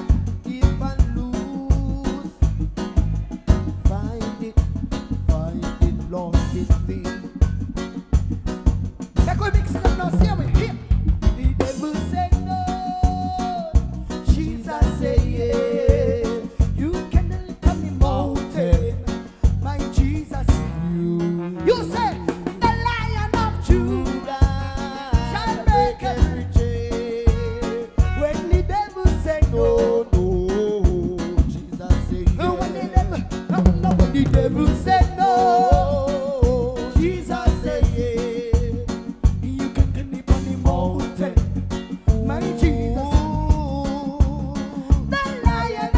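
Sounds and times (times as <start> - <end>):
drum hits and cymbals: 0.0 - 20.8, 21.7 - 45.9
bass: 0.0 - 45.9
live band playing reggae: 0.0 - 45.9.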